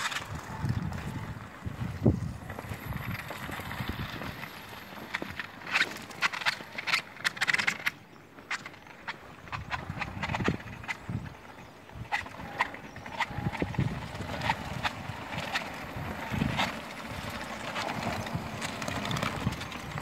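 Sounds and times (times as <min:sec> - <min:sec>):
crawler tracks clattering: 0:00.0 - 0:20.0.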